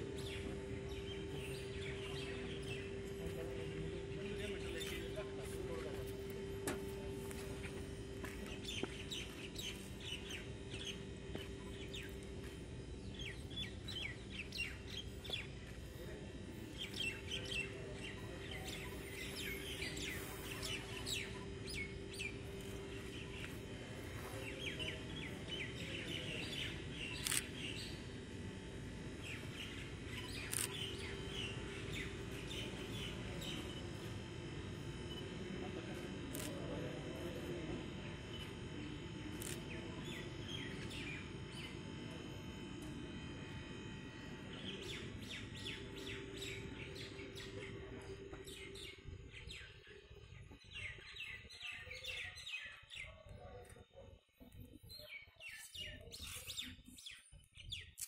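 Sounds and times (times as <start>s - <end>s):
small birds chirping: 0.0s - 58.0s
steady low hum: 0.0s - 58.0s.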